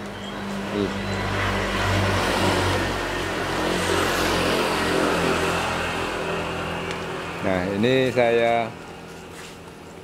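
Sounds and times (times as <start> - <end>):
vehicle passing on road: 0.0 - 9.8.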